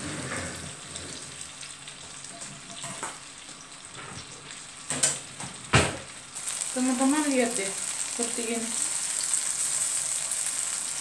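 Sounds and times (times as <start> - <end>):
bananas sizzling in a frying pan: 0.0 - 11.0.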